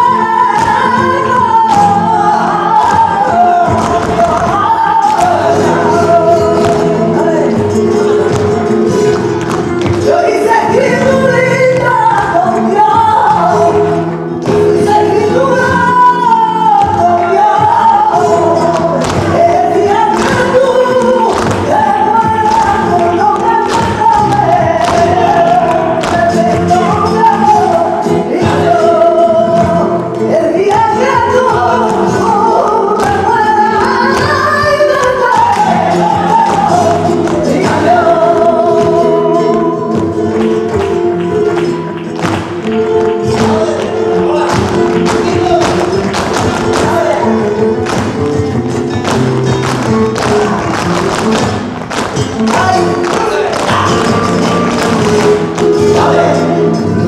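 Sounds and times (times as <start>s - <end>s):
guitar: 0.0s - 57.0s
heeled shoes tapping on stage: 0.0s - 57.0s
person singing: 0.0s - 57.0s.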